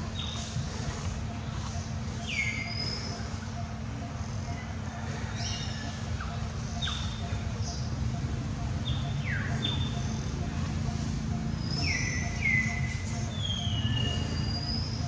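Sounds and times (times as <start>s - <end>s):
birds whistling: 0.0s - 15.0s
faint ticking pulse: 0.0s - 15.0s.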